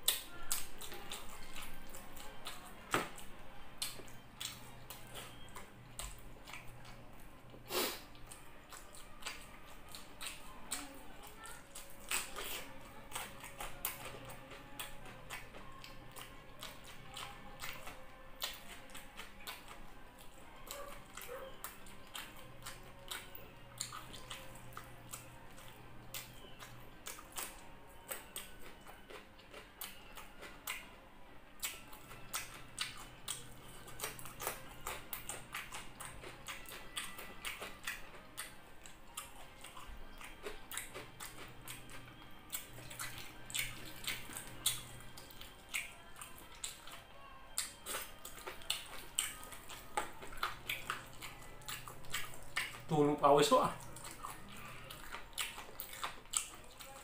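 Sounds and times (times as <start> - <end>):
person chewing with wet smacks: 0.0 - 57.0.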